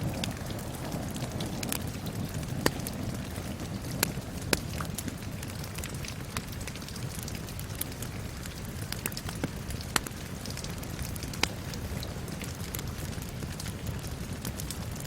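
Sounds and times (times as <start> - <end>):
rain pattering: 0.0 - 15.0
wood fire crackling and popping: 0.0 - 15.0.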